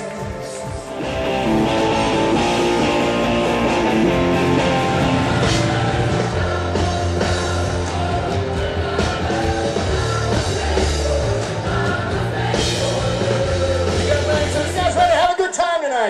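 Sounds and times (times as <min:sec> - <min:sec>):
person singing: 0:00.0 - 0:15.2
rock band playing: 0:00.0 - 0:15.4
steady bass line: 0:00.9 - 0:15.2.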